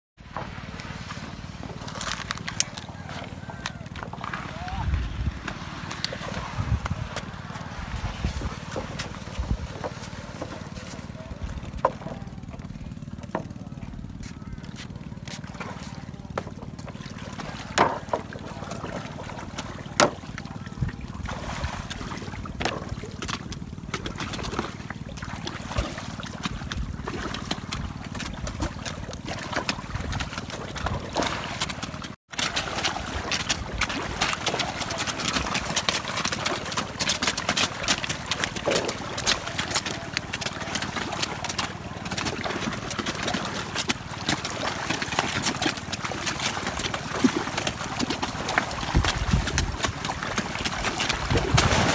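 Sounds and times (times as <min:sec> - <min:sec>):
fish splashing and thrashing: 0:00.2 - 0:51.9.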